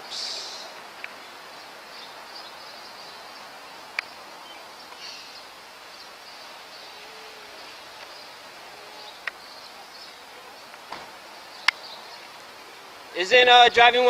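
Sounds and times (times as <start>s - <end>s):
faint high buzz: 0.0s - 13.8s.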